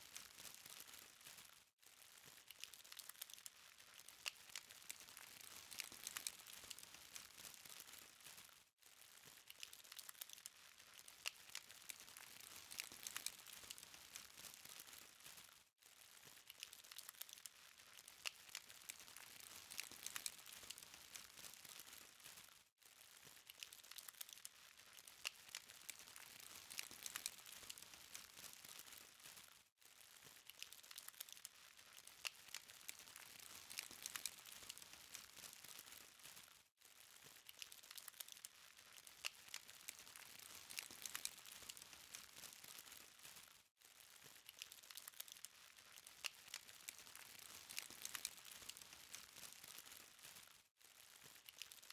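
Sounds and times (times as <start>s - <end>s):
charcoal fire crackling: 0.0s - 51.9s.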